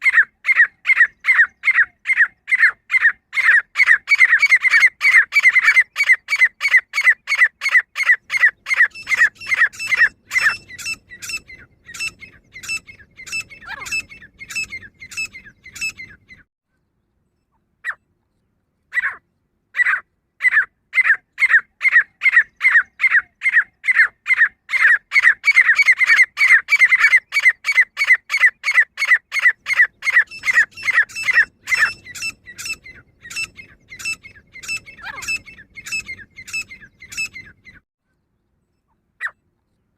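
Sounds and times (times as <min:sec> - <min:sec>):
francolin calling: 0:00.0 - 0:16.5, 0:19.8 - 0:37.8.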